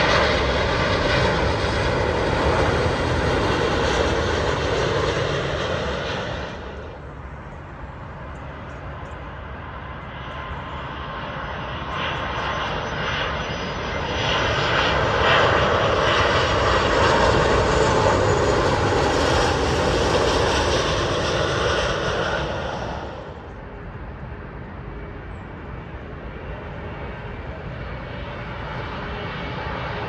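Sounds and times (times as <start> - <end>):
jet engines passing overhead: 0.0 - 30.0.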